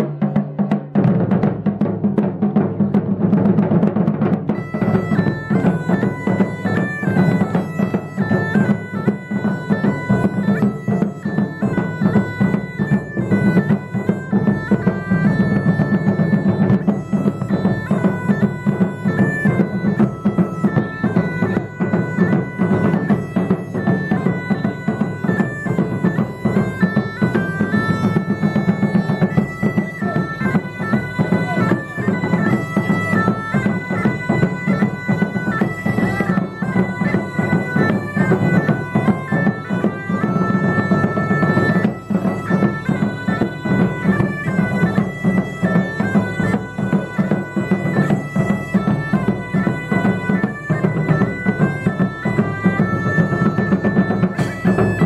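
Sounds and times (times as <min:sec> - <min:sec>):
drums beating: 0:00.0 - 0:55.0
bagpipes playing over drone: 0:04.5 - 0:55.0.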